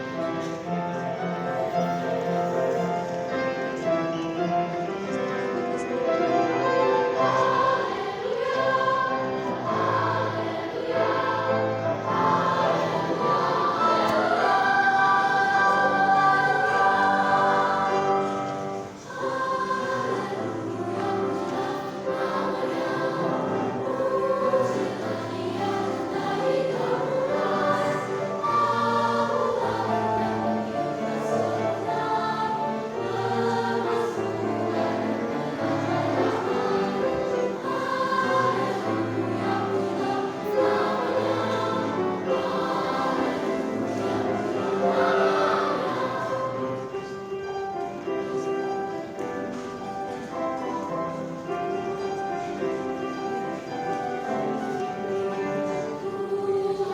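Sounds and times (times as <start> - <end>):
children's choir singing: 0.0 - 56.9.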